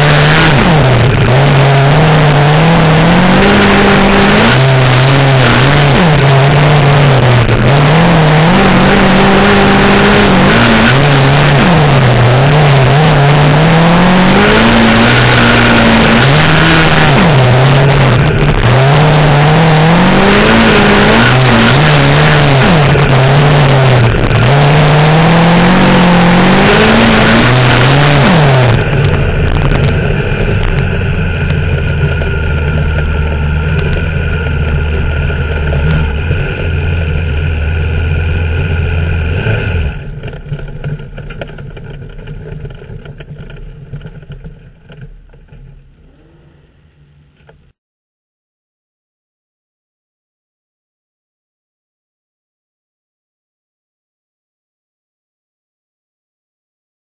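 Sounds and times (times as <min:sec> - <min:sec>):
rattling: 0:00.0 - 0:47.7
race car engine: 0:00.0 - 0:47.8.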